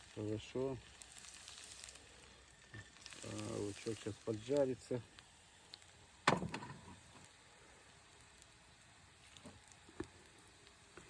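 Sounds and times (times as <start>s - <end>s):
onion sizzling in a pan: 0.0s - 11.0s.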